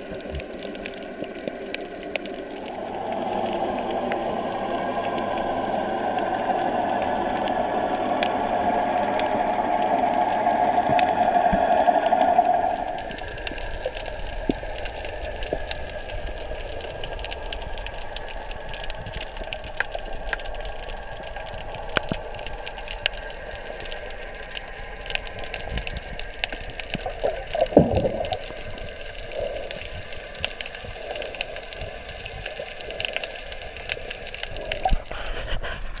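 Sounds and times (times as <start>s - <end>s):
swirl of water: 0.0s - 36.0s
underwater hiss: 2.4s - 36.0s.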